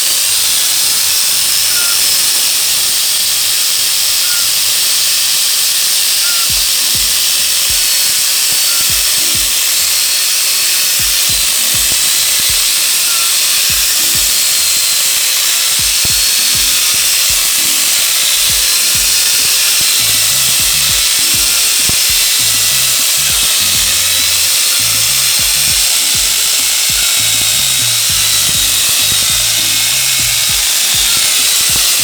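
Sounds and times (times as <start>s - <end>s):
chainsaw grinder cutting wood: 0.0s - 32.0s.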